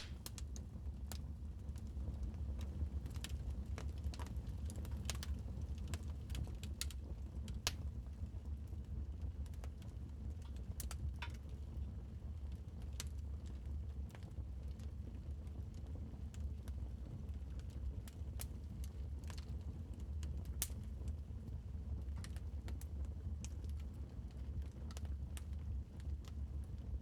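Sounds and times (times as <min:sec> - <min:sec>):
low fire rumble: 0:00.0 - 0:27.0
wood fire crackling: 0:00.0 - 0:27.0.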